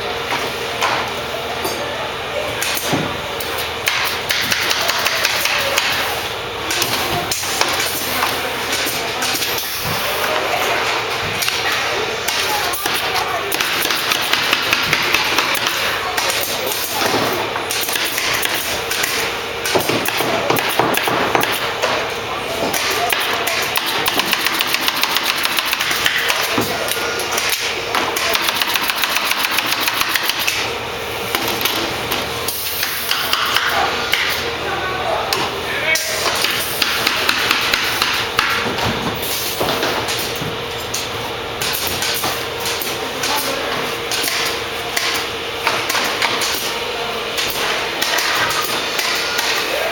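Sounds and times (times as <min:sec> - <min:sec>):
faint machine hum: 0:00.0 - 0:49.9.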